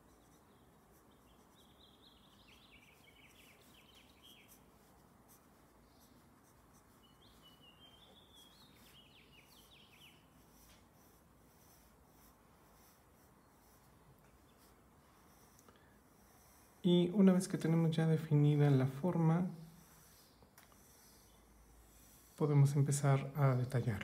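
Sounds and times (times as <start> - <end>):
pencil scratching on paper: 0.0 - 23.6.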